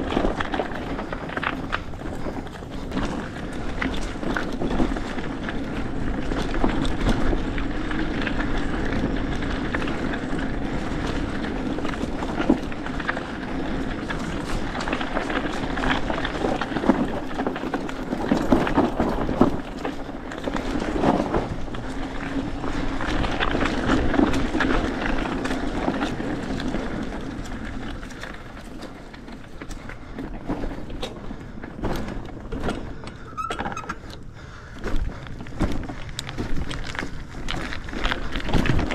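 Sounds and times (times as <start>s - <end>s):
bike knocking and rattling: 0.0s - 38.9s
bike tyres rumbling on dirt: 0.0s - 38.9s.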